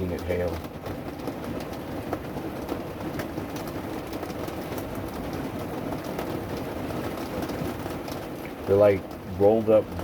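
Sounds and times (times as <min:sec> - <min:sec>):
hail and rain striking surfaces: 0:00.0 - 0:10.0.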